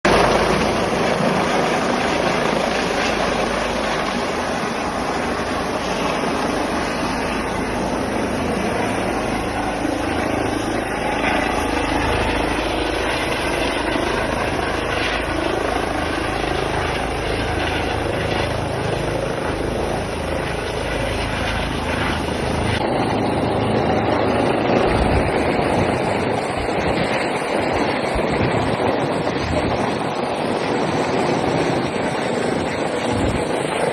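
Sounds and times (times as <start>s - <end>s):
helicopter rotor and turbine: 0.0s - 33.9s.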